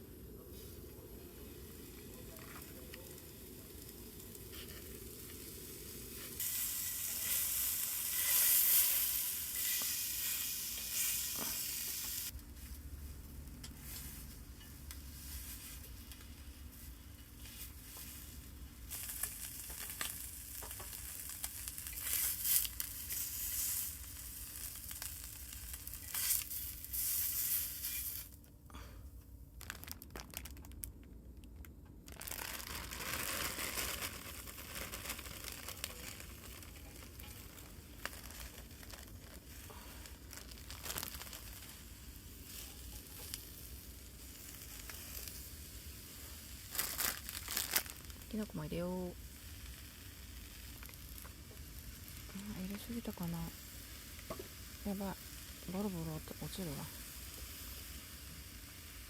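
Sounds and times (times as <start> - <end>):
vegetables sizzling in a pan: 0.0 - 28.4, 32.2 - 59.0.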